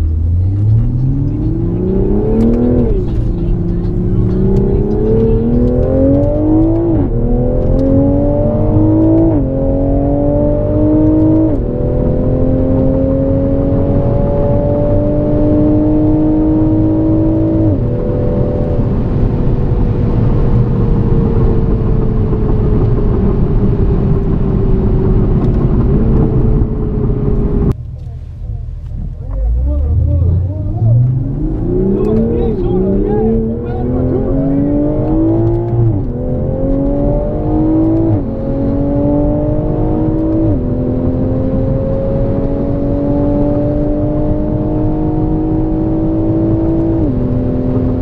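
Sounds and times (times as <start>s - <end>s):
car engine under full throttle: 0.0s - 48.0s.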